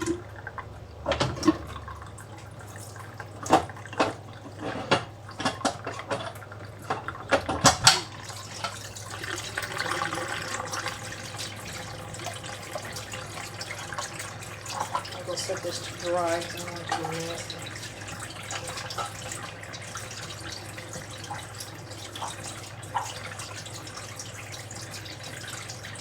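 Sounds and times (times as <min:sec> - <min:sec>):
water rushing through drain pipe: 0:00.0 - 0:26.0.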